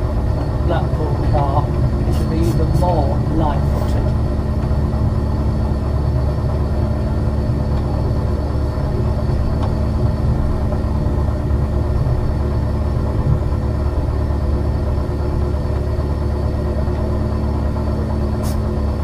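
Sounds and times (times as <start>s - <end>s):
constant hum: 0.0s - 19.0s
tram rumbling along track: 0.0s - 19.0s.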